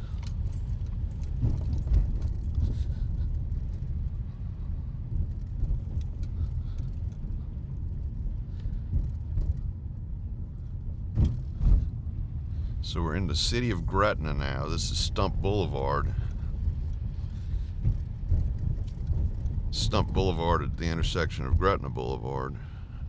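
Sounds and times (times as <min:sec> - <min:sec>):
car engine and tyres rumbling: 0:00.0 - 0:23.0.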